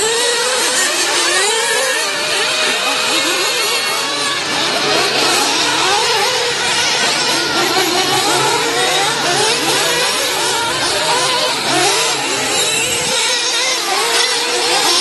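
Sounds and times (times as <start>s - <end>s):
small engines revving high-pitched: 0.0s - 15.0s.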